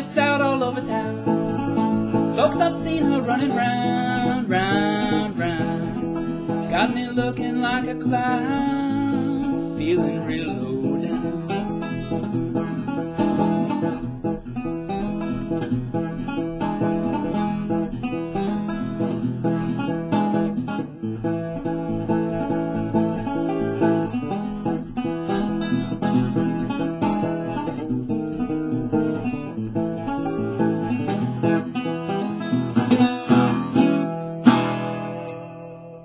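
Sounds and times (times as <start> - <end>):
fingerpicked resonator guitar blues: 0.0 - 36.0.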